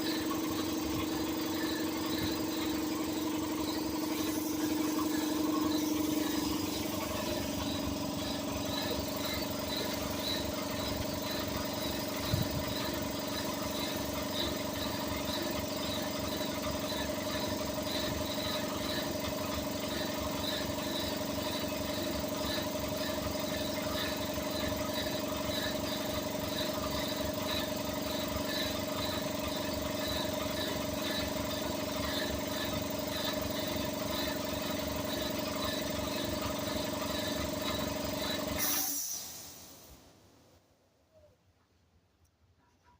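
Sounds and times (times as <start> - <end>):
compressor humming: 0.0 - 39.7.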